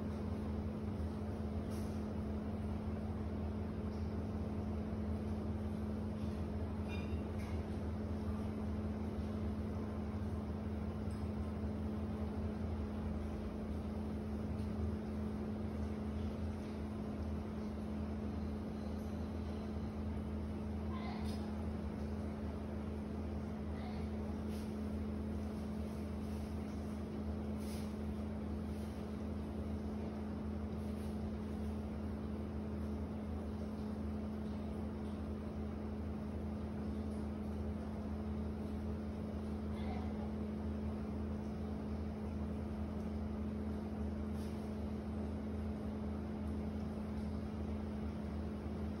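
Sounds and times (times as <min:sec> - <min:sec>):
low mechanical drone: 0:00.0 - 0:49.0.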